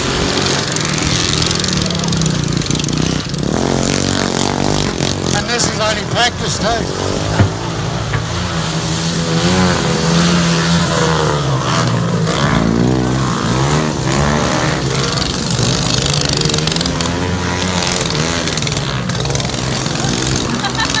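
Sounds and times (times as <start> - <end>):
lawn mower engines revving: 0.0 - 21.0.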